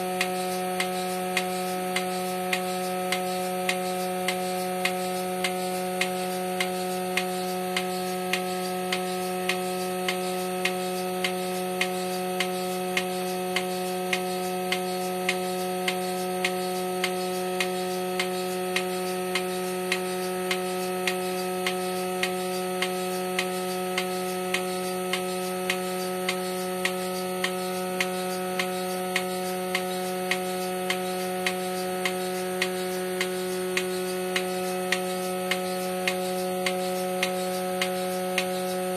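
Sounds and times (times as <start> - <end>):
vacuum pump motor humming: 0.0 - 38.9
pulsator clicking: 0.2 - 38.9.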